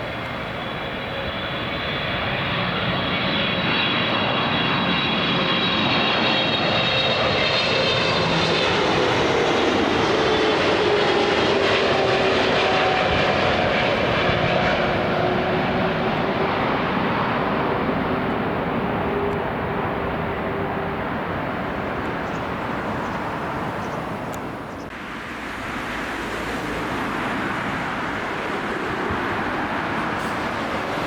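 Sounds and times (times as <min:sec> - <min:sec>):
jet engines passing: 0:00.0 - 0:31.0.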